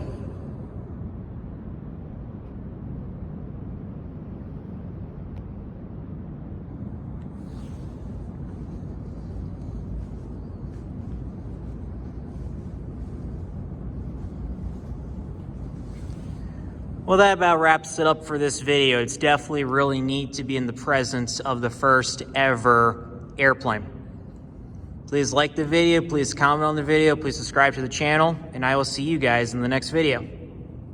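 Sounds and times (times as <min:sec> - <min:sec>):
low room rumble: 0:00.0 - 0:30.9.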